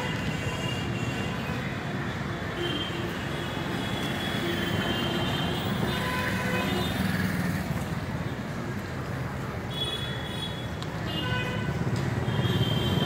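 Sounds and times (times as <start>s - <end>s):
busy city street traffic: 0.0s - 13.0s.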